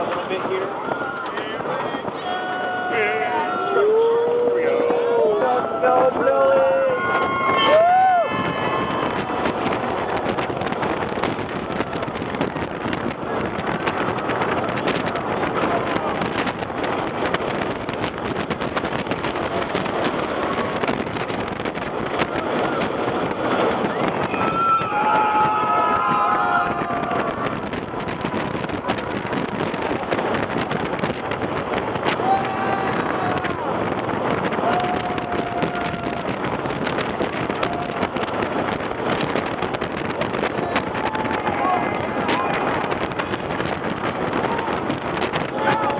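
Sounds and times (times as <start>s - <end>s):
roller coaster train running: 0.0s - 45.9s
wind on microphone: 0.0s - 45.9s.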